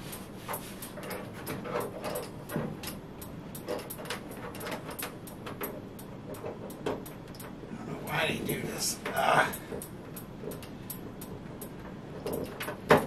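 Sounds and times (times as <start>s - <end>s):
cables rustling: 0.0s - 13.0s.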